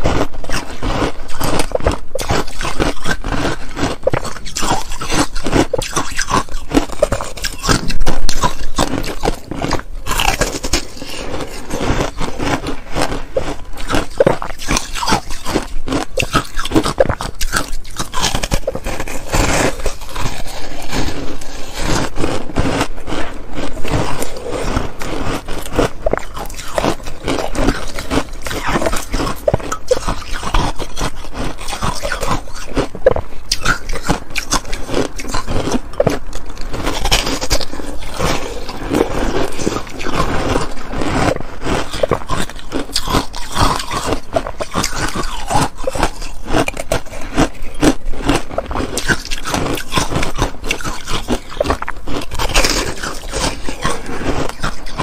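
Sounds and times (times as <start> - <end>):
teeth crunching ice: 0.0 - 55.0.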